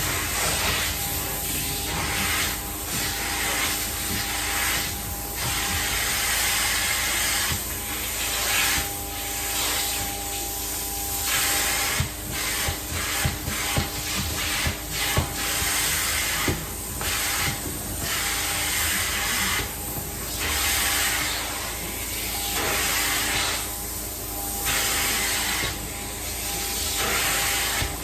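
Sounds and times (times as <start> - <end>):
vacuum whine: 0.0 - 28.0.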